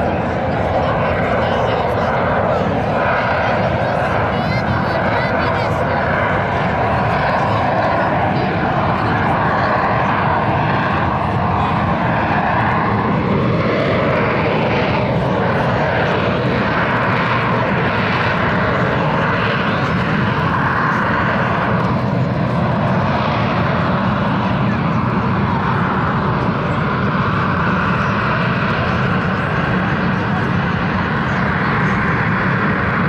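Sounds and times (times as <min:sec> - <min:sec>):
jet engine running loud: 0:00.0 - 0:33.0.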